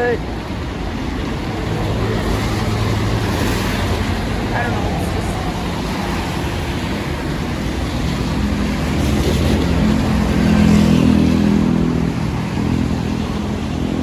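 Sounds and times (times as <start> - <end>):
vehicle engine passing by: 1.5 - 14.0.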